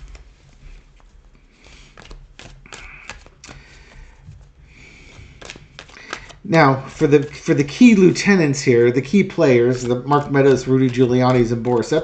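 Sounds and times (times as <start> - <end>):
cards shuffling: 0.0 - 12.0.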